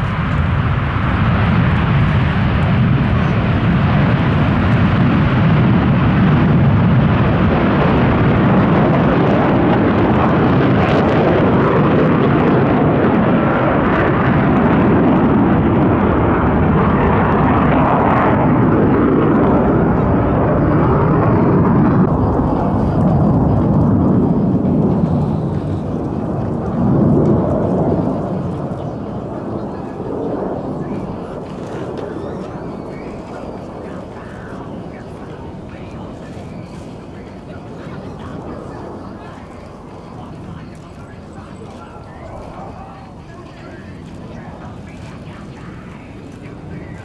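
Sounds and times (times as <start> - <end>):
jet fighter flying past: 0.0 - 47.0.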